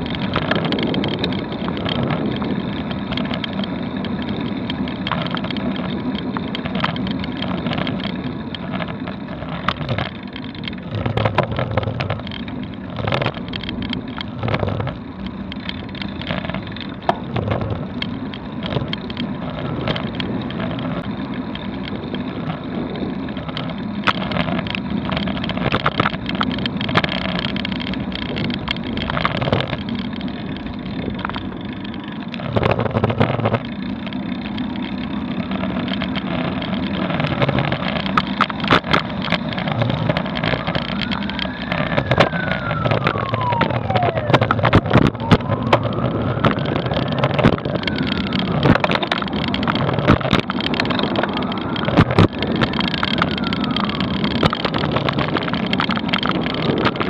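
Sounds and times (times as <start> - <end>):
bicycle tyres rumbling: 0.0 - 57.0
bike and mount rattling: 0.0 - 57.0
street traffic: 0.0 - 57.0.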